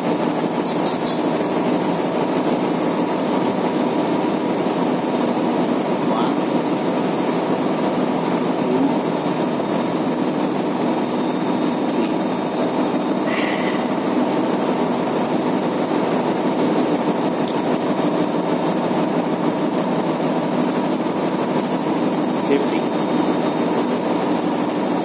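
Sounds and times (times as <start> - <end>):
ship machinery drone: 1.2 - 25.0.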